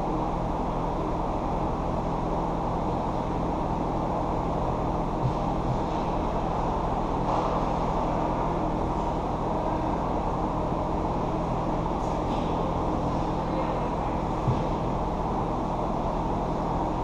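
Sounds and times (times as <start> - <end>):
low rumble with faint hum: 0.0 - 17.0.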